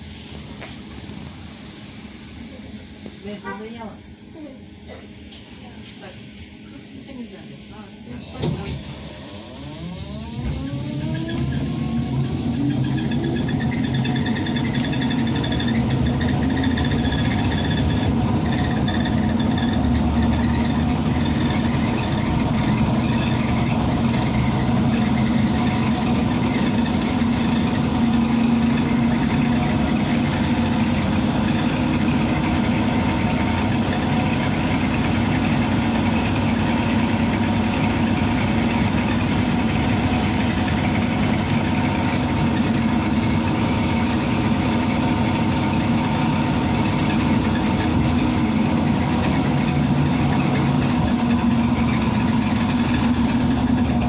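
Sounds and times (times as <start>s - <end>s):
trolleybus electric drive hum: 0.0s - 54.0s.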